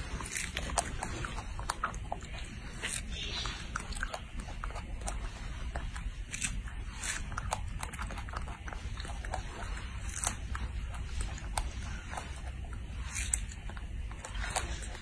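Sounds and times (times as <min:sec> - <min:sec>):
low background noise: 0:00.0 - 0:15.0
monkey chewing wet smacks: 0:00.0 - 0:15.0.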